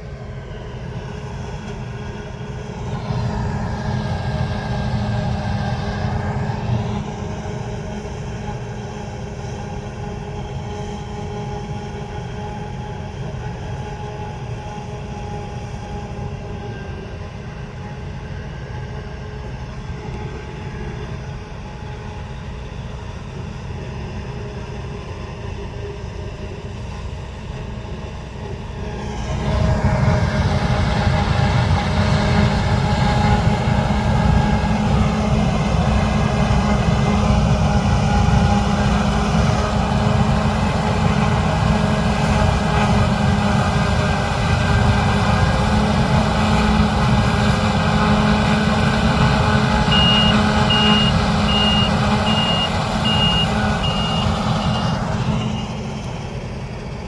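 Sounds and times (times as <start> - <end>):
diesel engines rumbling: 0.0 - 57.0.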